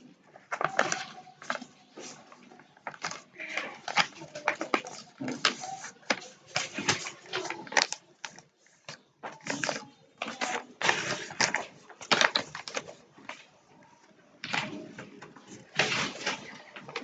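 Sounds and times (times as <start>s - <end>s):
paper rustling and folding: 0.0s - 17.0s.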